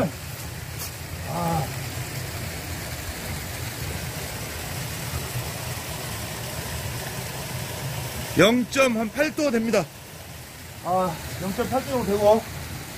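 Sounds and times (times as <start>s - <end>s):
even hiss: 0.0s - 12.9s.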